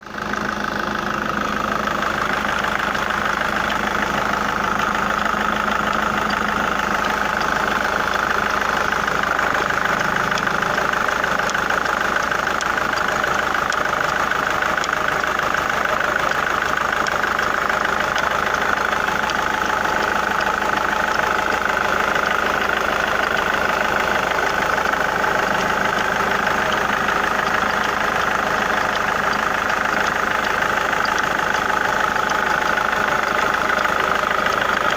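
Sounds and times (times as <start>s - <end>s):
engine idling with fast knocking: 0.0s - 34.9s.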